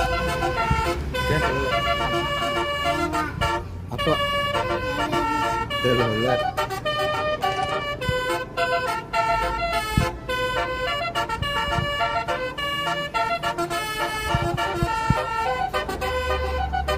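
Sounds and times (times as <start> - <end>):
musical bus horn melody: 0.0 - 16.9.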